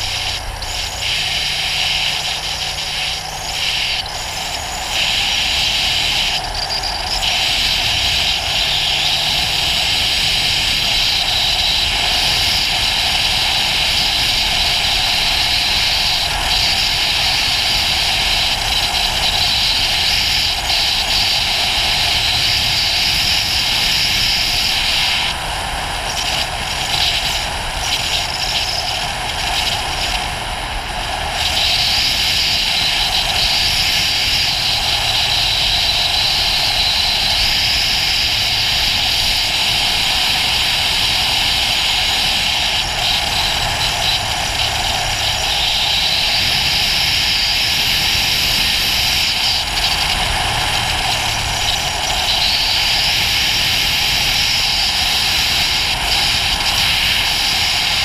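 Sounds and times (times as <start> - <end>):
motorcycle engine: 0.0 - 58.0
wind rush over microphone: 0.0 - 58.0.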